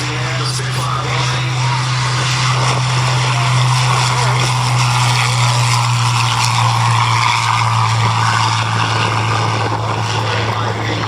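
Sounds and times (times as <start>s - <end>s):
propeller aircraft engine drone: 0.0s - 11.0s.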